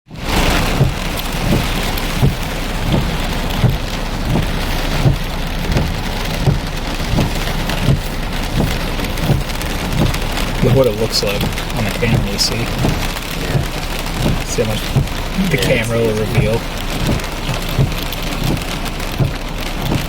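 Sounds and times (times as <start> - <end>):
heavy rain: 0.1 - 20.0.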